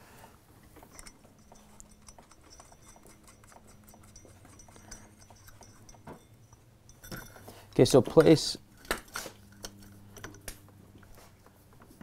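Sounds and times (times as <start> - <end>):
small metal clicks: 0.9 - 10.8.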